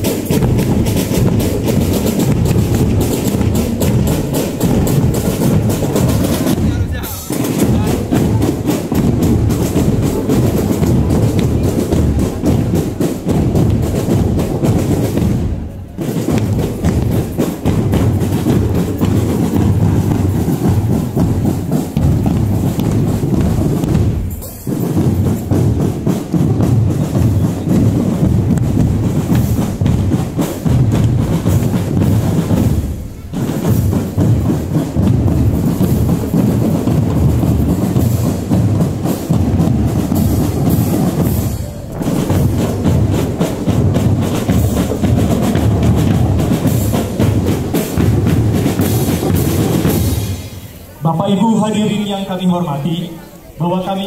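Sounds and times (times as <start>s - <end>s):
bass drums and percussion: 0.0s - 52.0s
marching band playing: 0.0s - 54.0s.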